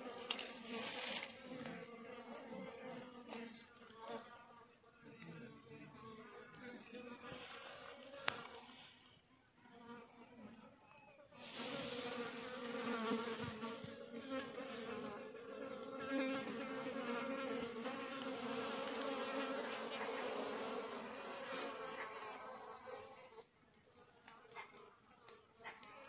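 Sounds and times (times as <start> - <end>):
insect buzzing: 0.0 - 26.0.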